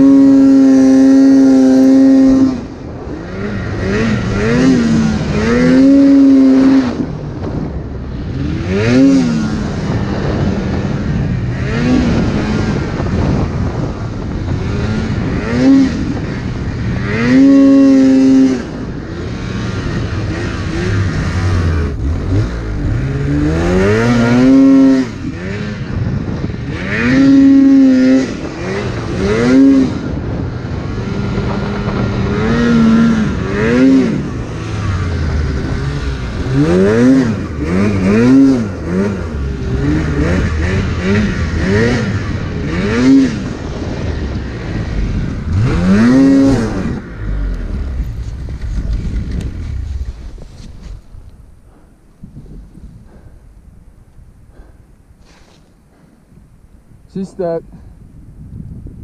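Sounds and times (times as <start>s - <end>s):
snowmobile engine revving: 0.0s - 53.2s.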